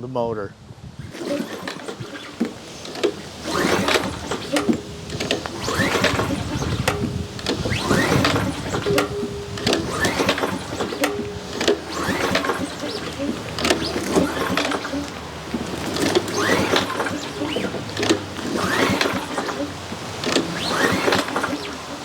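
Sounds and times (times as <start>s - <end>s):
lawn mower pull-starter cranking: 1.0s - 22.0s.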